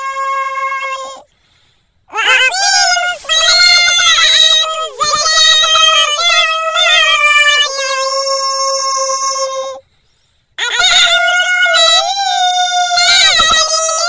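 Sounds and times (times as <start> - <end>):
child chanting recitation: 0.0 - 1.3, 2.1 - 9.8, 10.6 - 14.0.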